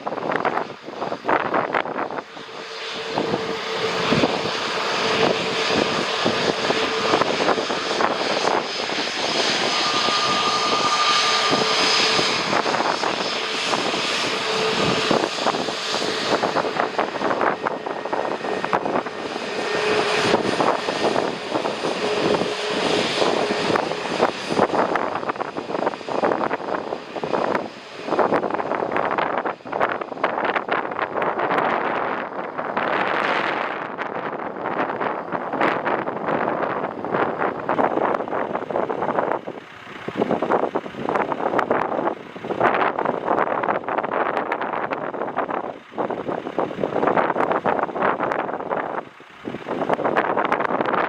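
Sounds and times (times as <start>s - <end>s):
faint engine whine: 0.0s - 51.0s
jet airliner engines: 0.0s - 51.0s
wind buffeting microphone: 0.0s - 51.0s.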